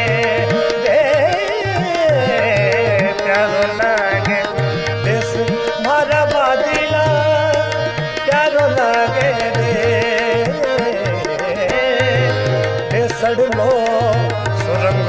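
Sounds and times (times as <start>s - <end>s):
harmonium sustained notes: 0.0s - 15.0s
man singing vocal runs: 0.0s - 15.0s
tabla rhythm: 0.0s - 15.0s.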